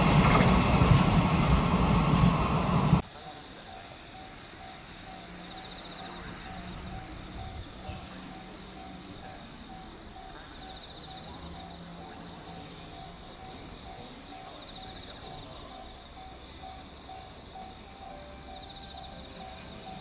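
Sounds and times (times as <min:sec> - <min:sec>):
insects trilling: 0:03.0 - 0:20.0.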